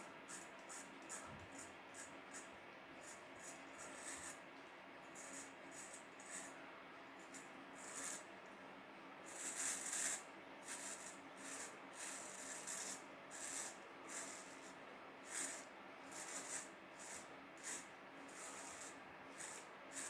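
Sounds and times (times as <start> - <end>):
razor scraping stubble: 0.0 - 4.4, 5.1 - 6.6, 9.3 - 20.0.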